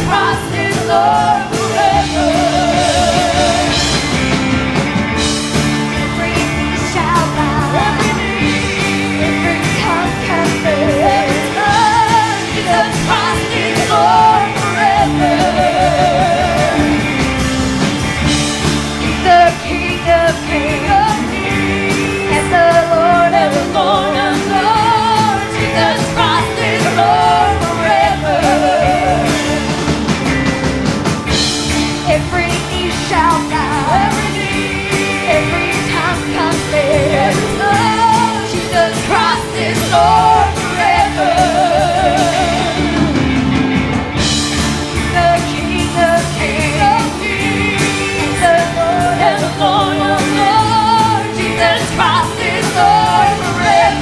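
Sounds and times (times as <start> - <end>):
person singing with vibrato: 0.0 - 18.0, 19.0 - 30.6, 31.2 - 43.6, 45.0 - 54.0
drum beat: 0.0 - 54.0
held chords: 0.0 - 54.0.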